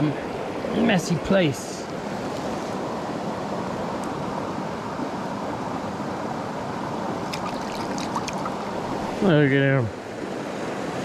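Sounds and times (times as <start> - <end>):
stream rushing over rocks: 1.9 - 11.0.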